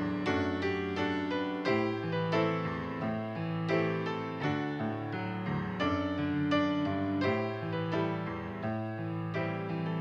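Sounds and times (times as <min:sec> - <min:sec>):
grand piano playing slow piece: 0:00.0 - 0:10.0.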